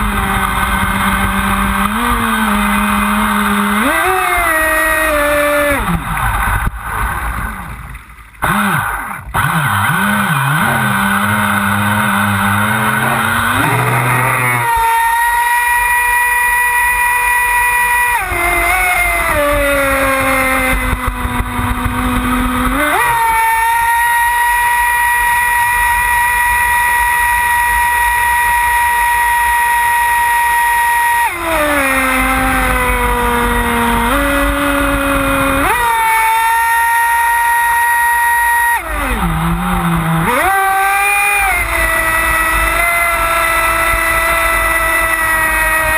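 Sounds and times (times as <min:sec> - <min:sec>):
speedboat motor whining: 0:00.0 - 0:45.9.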